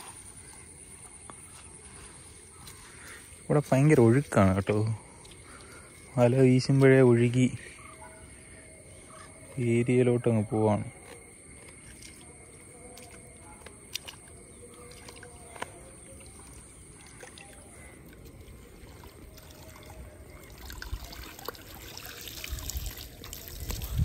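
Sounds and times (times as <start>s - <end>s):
water trickling and splashing: 0.0s - 7.4s, 10.8s - 24.0s.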